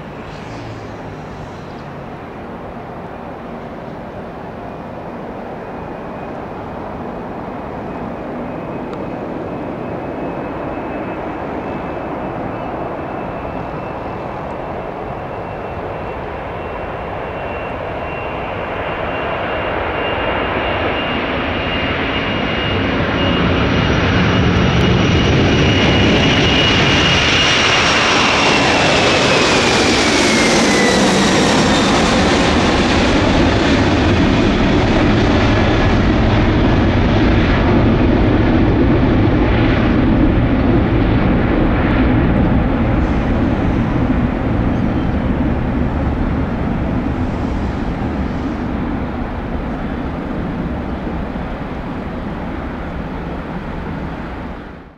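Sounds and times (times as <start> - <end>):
jet engines whining and rumbling: 0.0 - 54.9.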